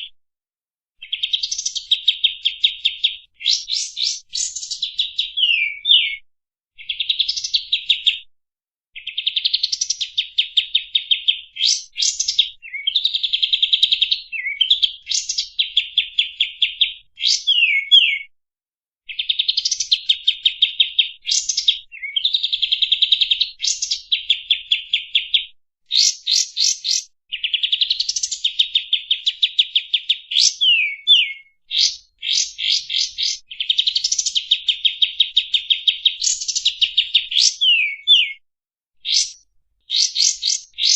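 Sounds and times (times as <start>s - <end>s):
bird song trills and whistles: 1.0s - 6.2s, 6.8s - 8.3s, 9.0s - 18.3s, 19.1s - 38.4s, 39.0s - 40.9s.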